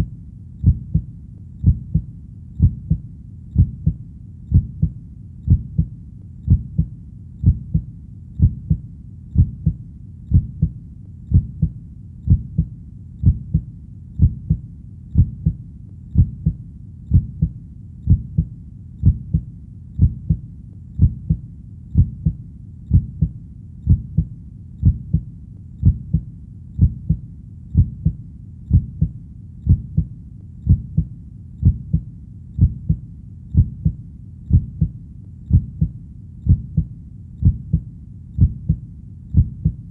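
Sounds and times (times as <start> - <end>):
faint low hum: 0.0 - 39.9
heartbeat thumps: 0.0 - 39.9.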